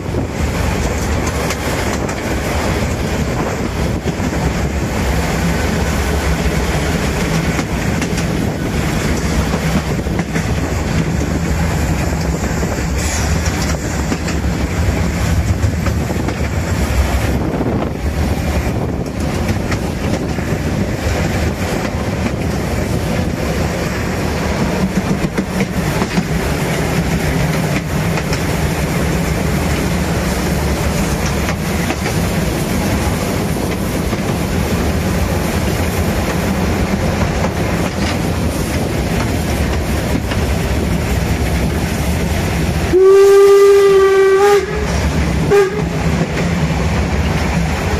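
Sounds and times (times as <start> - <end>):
rail clicks: 0.0 - 47.9
steam locomotive running: 0.0 - 47.9.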